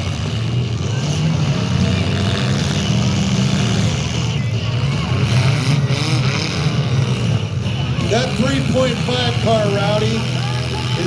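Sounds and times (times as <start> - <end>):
car engines running rough: 0.0 - 11.0.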